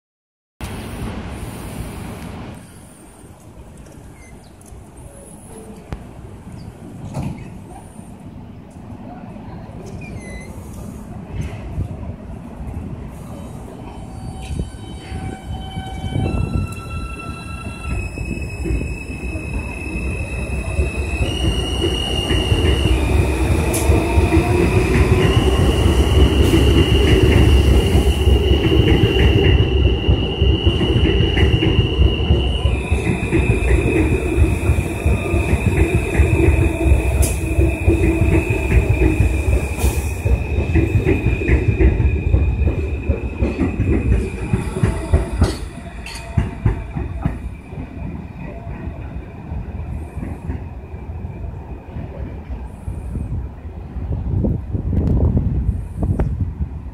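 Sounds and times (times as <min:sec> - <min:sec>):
wheels rumbling and clicking on rails: 0:00.6 - 0:56.9.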